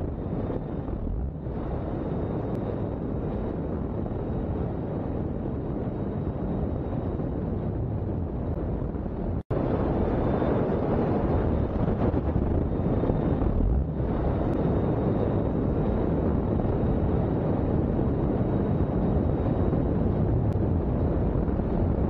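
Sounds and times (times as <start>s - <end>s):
jet turbines roaring: 0.0s - 22.0s
wind on microphone: 0.0s - 22.0s.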